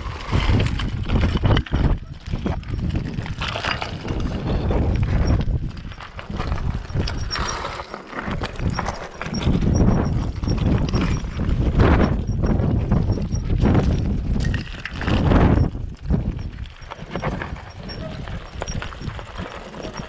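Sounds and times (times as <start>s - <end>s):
bike tyres crunching over stones: 0.0s - 20.0s
bike chain and frame clattering: 0.2s - 20.0s.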